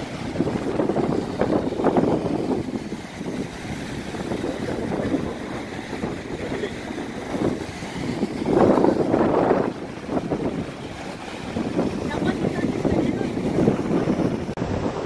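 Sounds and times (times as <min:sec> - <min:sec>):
flood water rushing: 0:00.0 - 0:15.0
wind buffeting microphone: 0:00.0 - 0:15.0.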